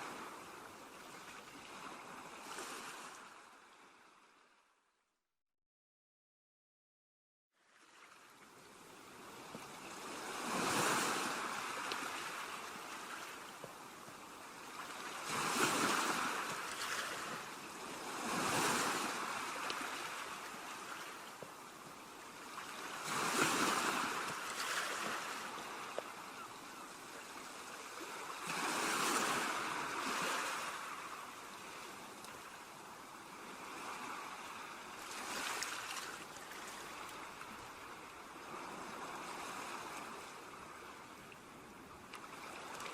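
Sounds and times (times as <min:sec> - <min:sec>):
ocean waves breaking on beach: 0:00.0 - 0:04.6, 0:07.6 - 0:42.9.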